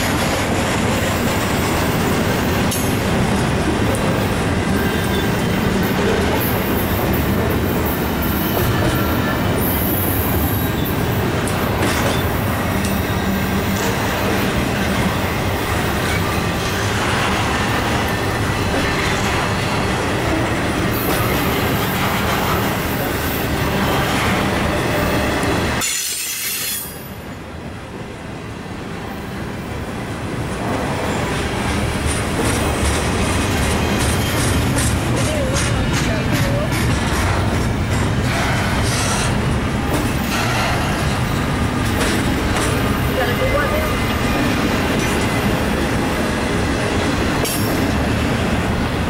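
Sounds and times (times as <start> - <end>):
steel wheels rumbling on rail: 0.0 - 49.0.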